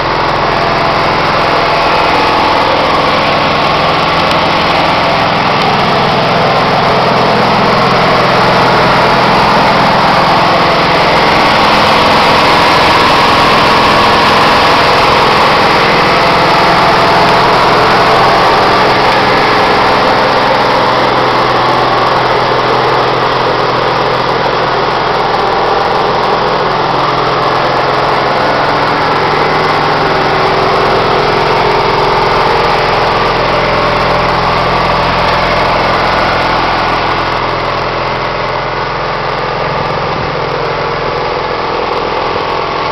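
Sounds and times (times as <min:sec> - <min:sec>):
four-stroke engine idling: 0:00.0 - 0:42.9.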